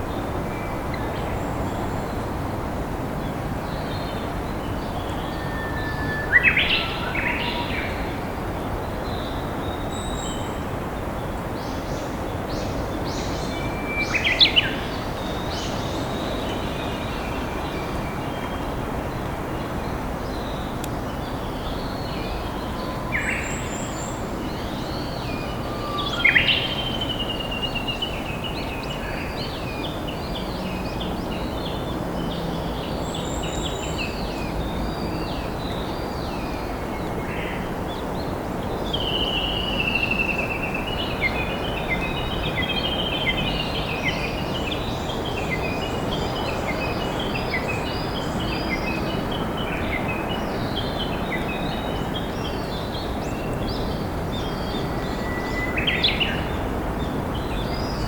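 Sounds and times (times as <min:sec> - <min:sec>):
birds singing: 0:03.6 - 0:58.0.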